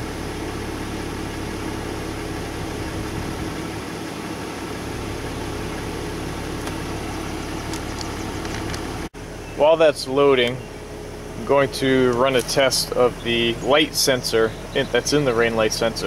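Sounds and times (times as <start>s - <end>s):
car engine hum from inside cabin: 0.0s - 16.0s.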